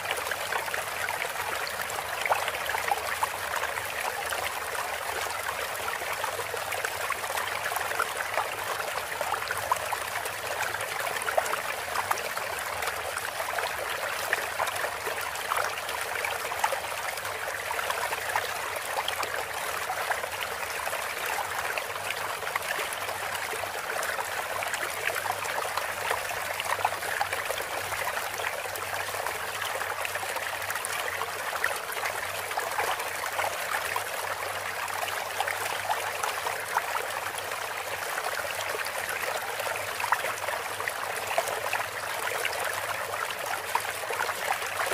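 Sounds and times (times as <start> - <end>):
water trickling and splashing: 0.0 - 44.9.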